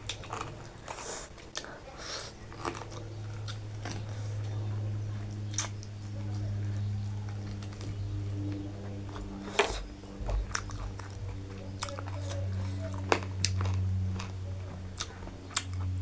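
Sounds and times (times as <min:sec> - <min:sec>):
close-up chewing: 0:00.0 - 0:16.0
low hum: 0:02.4 - 0:16.0.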